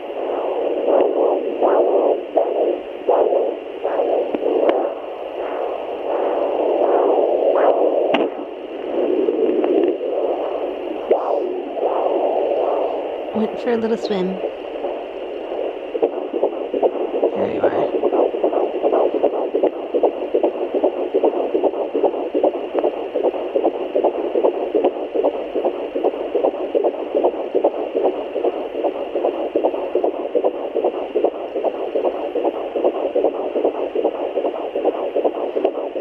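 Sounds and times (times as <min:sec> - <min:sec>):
fetal heartbeat on doppler: 0:00.0 - 0:36.0.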